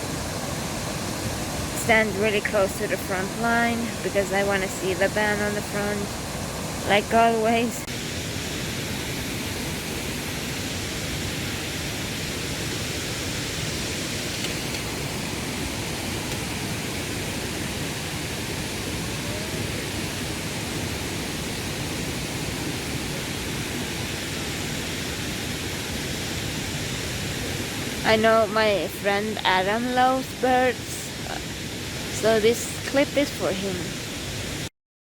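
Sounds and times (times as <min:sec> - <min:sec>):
steady rushing noise: 0:00.0 - 0:34.7.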